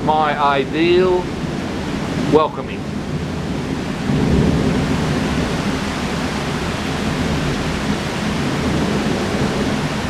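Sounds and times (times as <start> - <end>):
heavy rain falling: 0.0 - 10.0
low rumble of thunder: 1.2 - 10.0.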